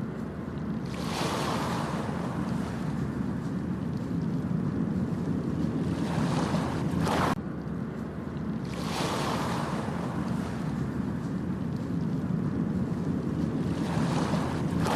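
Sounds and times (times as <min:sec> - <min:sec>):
ocean waves washing onto beach: 0:00.0 - 0:14.9.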